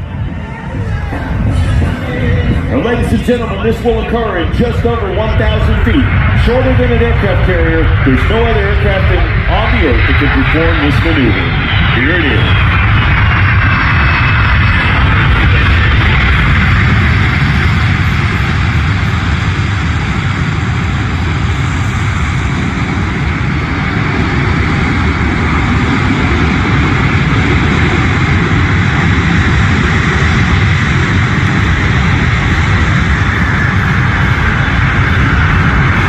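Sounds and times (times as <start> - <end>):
jet engines running loud: 0.0 - 36.0.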